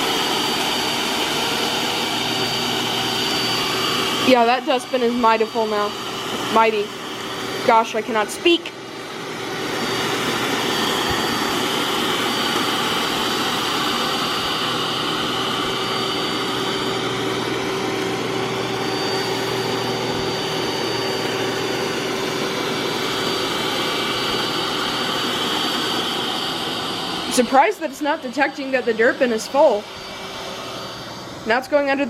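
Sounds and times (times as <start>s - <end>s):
robot vacuum whirring: 0.0s - 32.0s.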